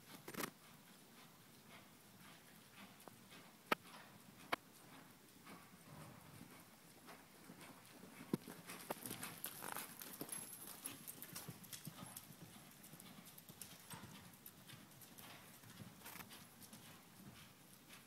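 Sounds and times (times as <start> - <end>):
horse hoofbeats on soft ground: 0.1 - 18.0.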